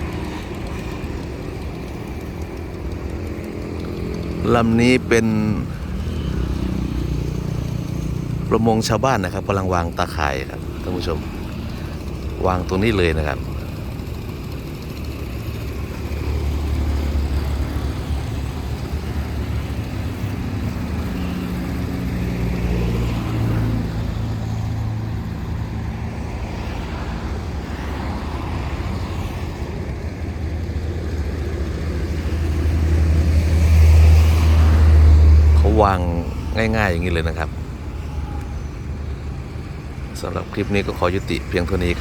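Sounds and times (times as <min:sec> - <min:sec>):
low engine rumble: 0:00.0 - 0:42.0.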